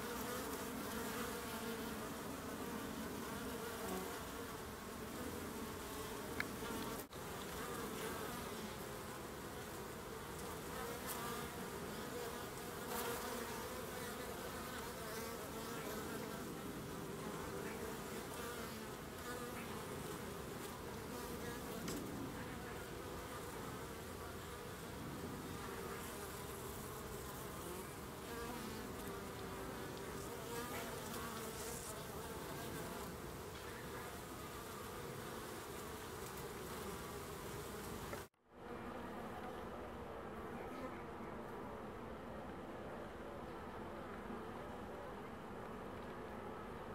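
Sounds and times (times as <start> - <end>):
honeybees buzzing: 0.0 - 38.3
single bees flying past: 0.0 - 38.3.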